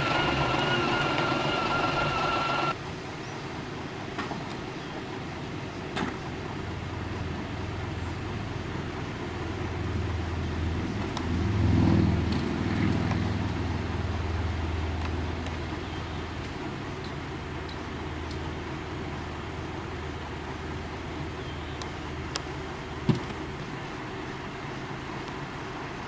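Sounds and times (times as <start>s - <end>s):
bus diesel engine running: 0.0s - 26.0s.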